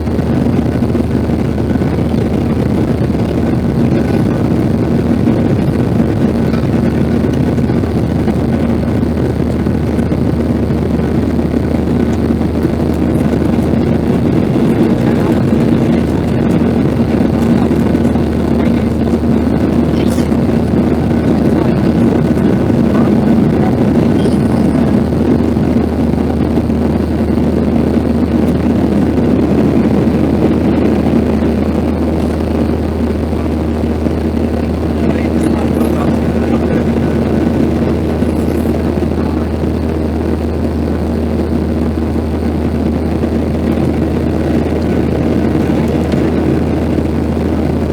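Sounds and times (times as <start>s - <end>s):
jet engine and airflow cabin noise: 0.0s - 47.9s.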